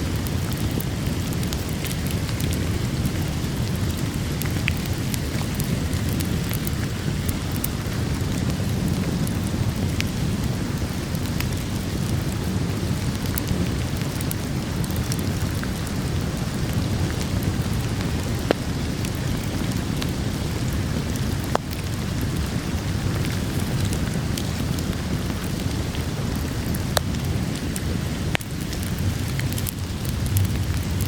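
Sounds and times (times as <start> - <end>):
heavy rain: 0.0 - 31.0
wood fire crackling and popping: 0.0 - 31.0.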